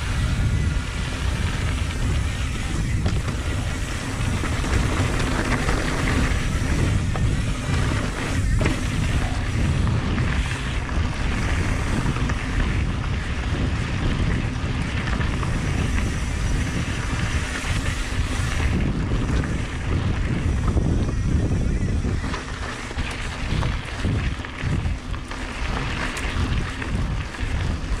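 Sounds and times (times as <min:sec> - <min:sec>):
bike tyres rolling on dirt: 0:00.0 - 0:28.0
wind buffeting microphone: 0:00.0 - 0:28.0.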